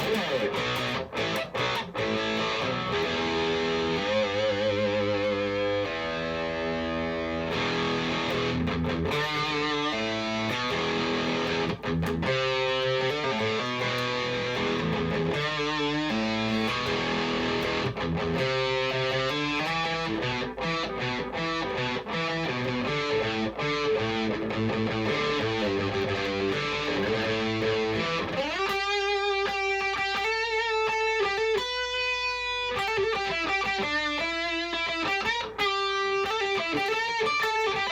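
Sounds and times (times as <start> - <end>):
electric guitar through amp: 0.0 - 37.9.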